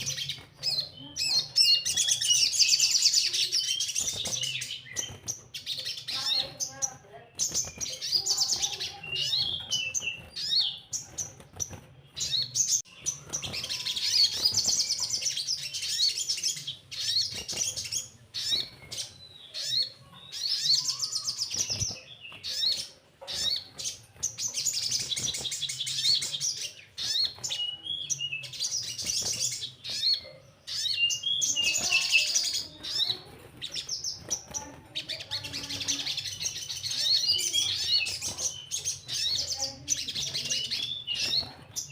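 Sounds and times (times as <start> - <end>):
small bird chattering trills: 0.0 - 41.9.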